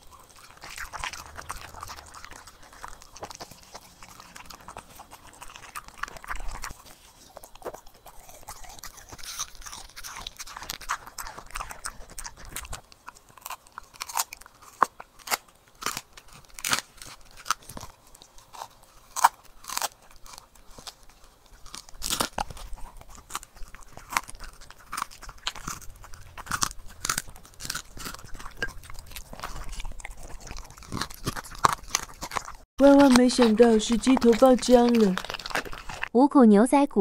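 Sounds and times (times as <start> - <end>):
dog crunching a treat: 0.0 - 36.1.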